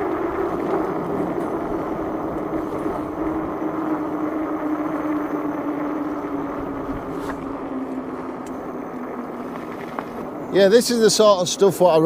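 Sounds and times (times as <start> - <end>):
electric drive hum: 0.0 - 11.7.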